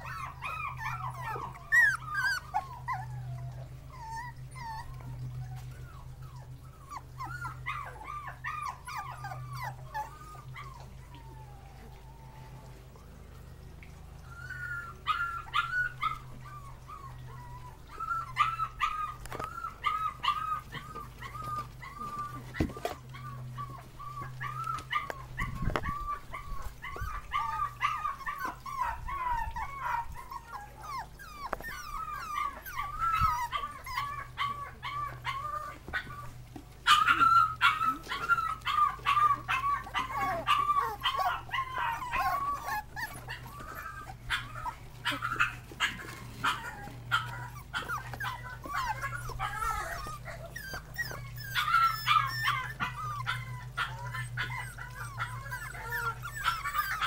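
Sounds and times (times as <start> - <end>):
puppies whining and whimpering: 0.0 - 57.0.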